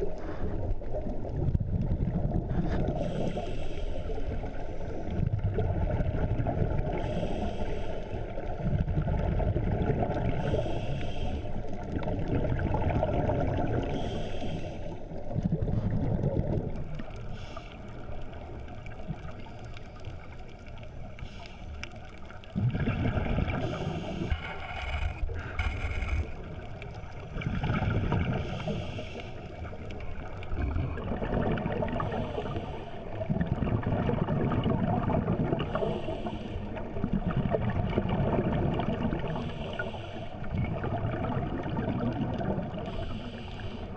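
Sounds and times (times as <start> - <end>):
underwater breathing bubbles: 0.0 - 43.9.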